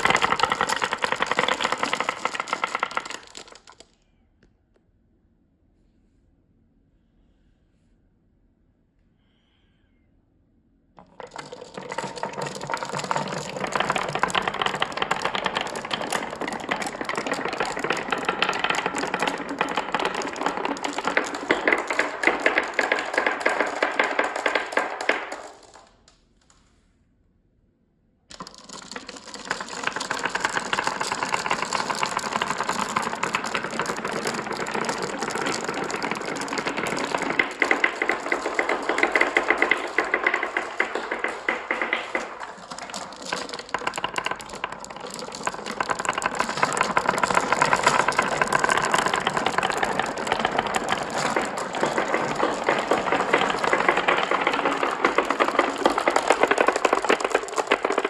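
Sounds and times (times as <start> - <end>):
marbles rolling and clicking: 0.0 - 3.9, 11.0 - 26.2, 28.3 - 58.0.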